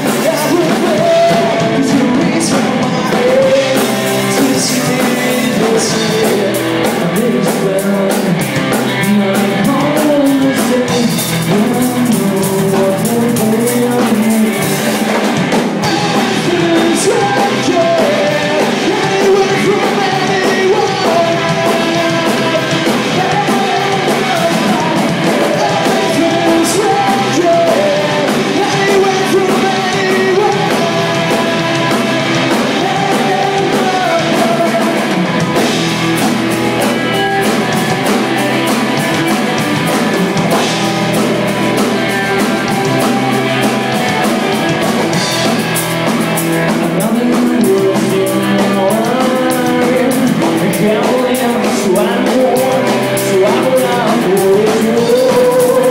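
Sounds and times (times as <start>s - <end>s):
live rock band playing: 0.0s - 55.9s
person singing: 0.0s - 55.9s.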